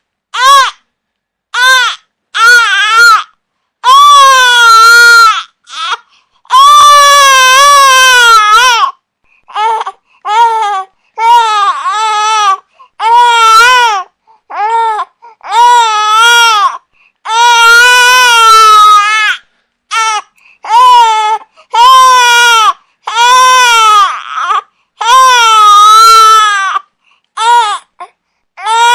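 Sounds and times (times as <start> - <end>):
baby crying: 0.4 - 0.8, 1.6 - 28.9.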